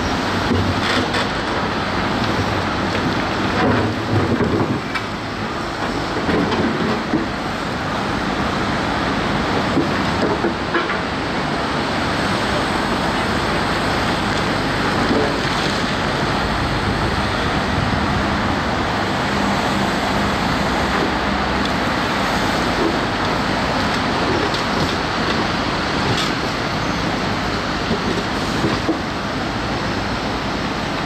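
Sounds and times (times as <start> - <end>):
heavy diesel machinery rumbling: 0.0 - 31.0.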